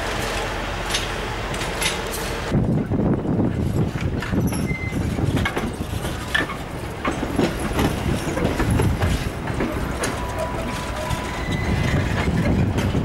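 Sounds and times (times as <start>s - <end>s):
train wheels rumbling on rail: 0.0s - 13.0s
wheels clacking over rail joints: 0.0s - 13.0s.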